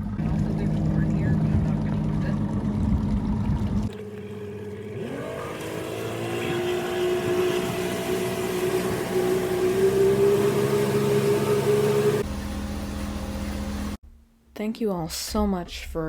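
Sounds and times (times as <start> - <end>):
boat motor speeding up: 0.0 - 14.0.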